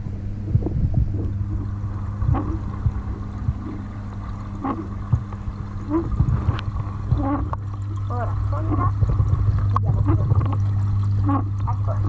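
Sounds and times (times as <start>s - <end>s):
air pump humming and bubbling: 0.0s - 12.0s
water gurgles: 0.0s - 12.0s.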